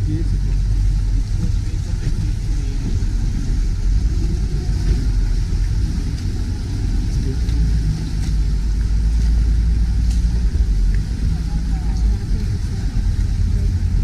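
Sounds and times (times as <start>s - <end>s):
motorboat engines rumbling: 0.0s - 14.0s.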